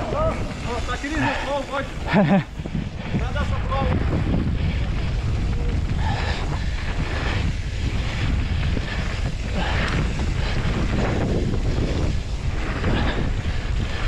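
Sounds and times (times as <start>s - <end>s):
tyres on dirt: 0.0s - 14.0s
wind rushing over microphone: 0.0s - 14.0s.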